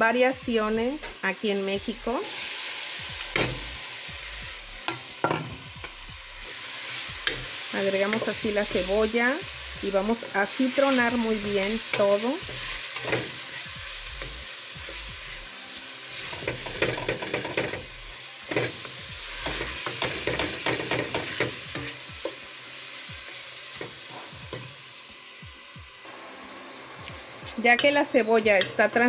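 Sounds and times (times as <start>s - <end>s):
onion sizzling in oil: 0.0s - 29.0s.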